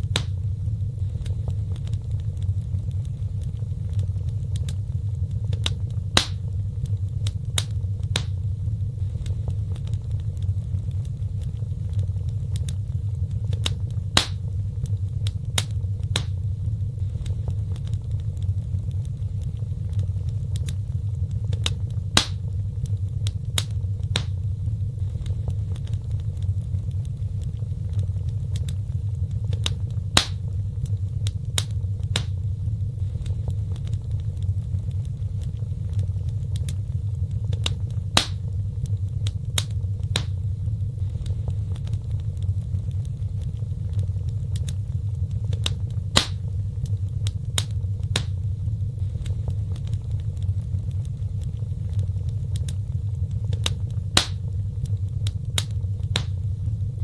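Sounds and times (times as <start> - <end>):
flames rumbling: 0.0 - 57.0
wood fire crackling and popping: 0.0 - 57.0.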